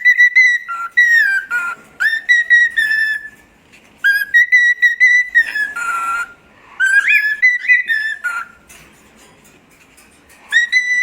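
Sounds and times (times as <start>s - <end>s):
bird whistling: 0.0s - 8.6s, 10.5s - 11.0s.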